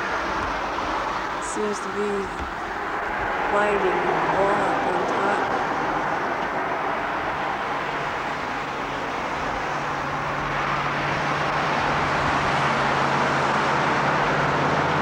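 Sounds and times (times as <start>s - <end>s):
low engine hum: 0.0s - 15.0s
road traffic noise: 0.0s - 15.0s.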